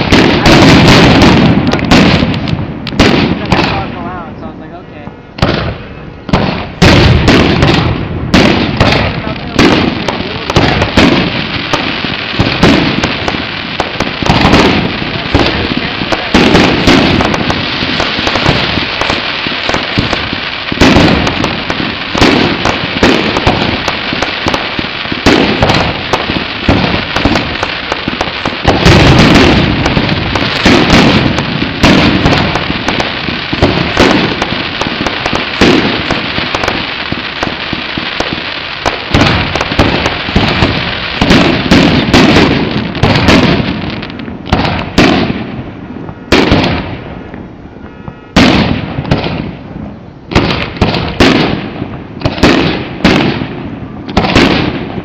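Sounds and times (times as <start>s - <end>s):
fireworks booming: 0.0s - 55.0s
fireworks crackling and banging: 0.0s - 55.0s.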